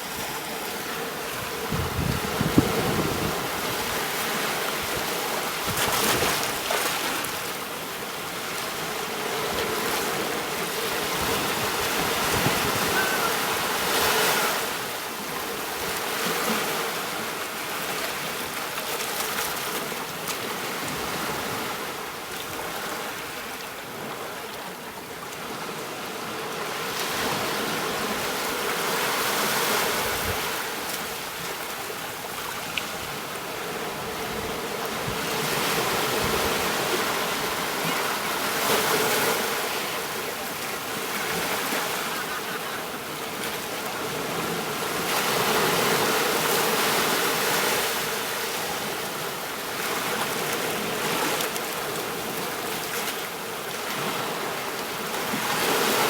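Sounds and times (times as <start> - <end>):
ocean surf washing onto beach: 0.0 - 18.8, 19.5 - 56.0.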